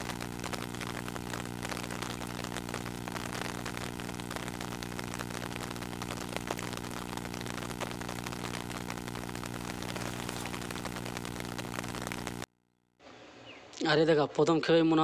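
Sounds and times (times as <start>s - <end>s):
rain pattering on water: 0.0s - 12.5s.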